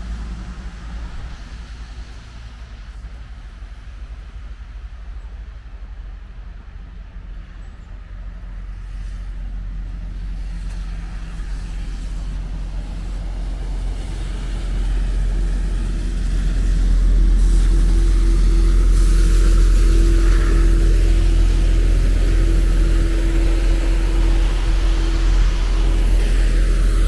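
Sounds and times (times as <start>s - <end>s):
low engine rumble: 0.0s - 27.0s
steady engine hum: 0.0s - 27.0s
tyre hiss on wet road: 0.0s - 27.0s.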